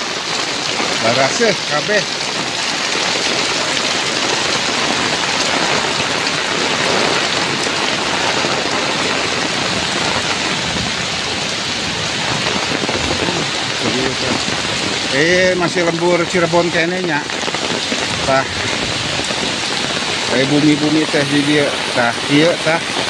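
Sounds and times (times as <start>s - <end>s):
heavy rain on pavement and foliage: 0.0s - 23.0s.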